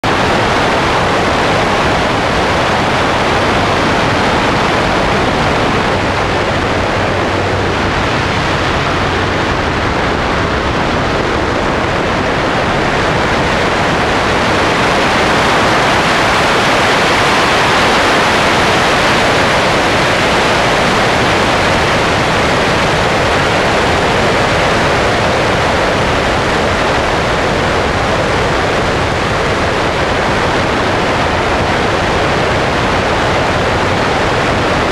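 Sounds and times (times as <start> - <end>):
aircraft engine and propeller droning: 0.0 - 34.9
wind rushing over camera: 0.0 - 34.9.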